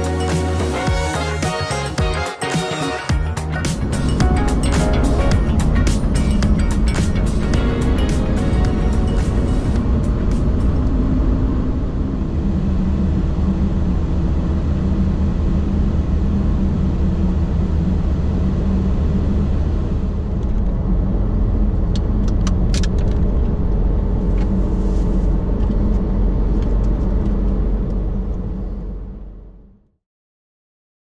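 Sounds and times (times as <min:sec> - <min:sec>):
engine and tyre rumble: 0:03.1 - 0:29.9.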